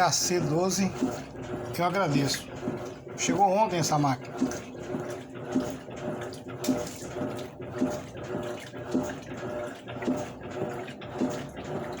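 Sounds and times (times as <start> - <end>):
washing machine agitating: 0.0 - 12.0
water sloshing: 0.0 - 12.0.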